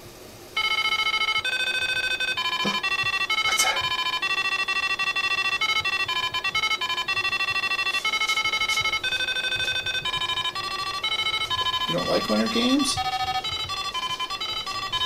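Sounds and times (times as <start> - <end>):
chiptune music: 0.6 - 15.0.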